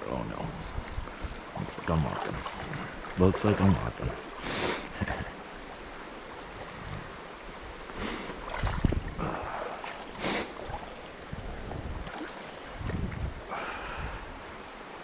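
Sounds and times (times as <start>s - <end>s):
creek water over rocks: 0.0s - 15.0s.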